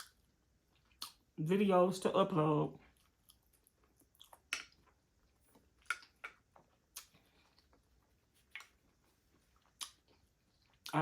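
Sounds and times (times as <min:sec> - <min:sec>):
person chewing with mouth smacks: 0:00.0 - 0:01.4, 0:02.9 - 0:11.0.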